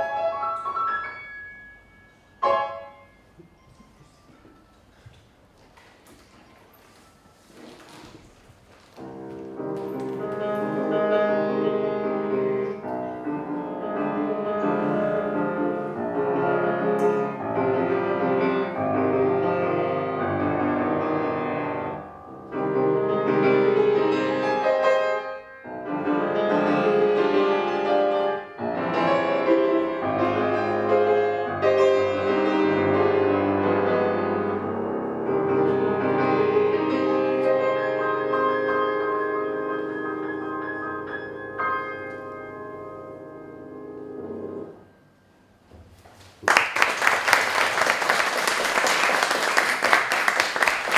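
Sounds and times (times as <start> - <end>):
solo piano piece: 0.0 - 5.1, 6.9 - 45.2.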